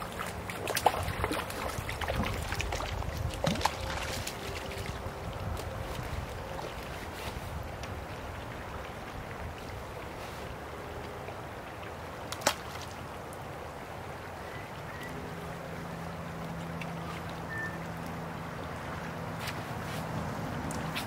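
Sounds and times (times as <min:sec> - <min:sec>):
flowing creek water: 0:00.0 - 0:21.0.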